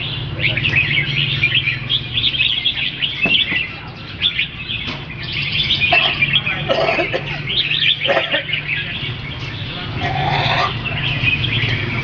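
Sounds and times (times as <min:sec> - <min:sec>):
young birds chirping: 0:00.0 - 0:12.0.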